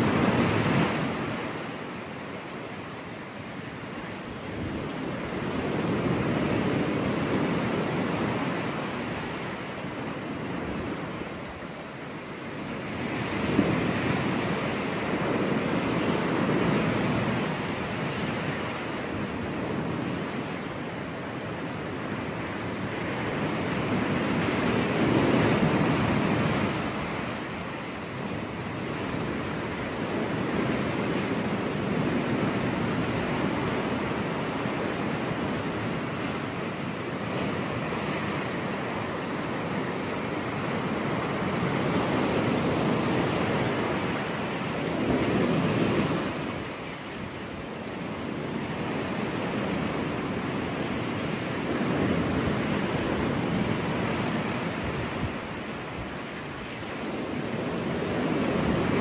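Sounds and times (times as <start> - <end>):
waves washing onto beach: 0.0 - 59.0.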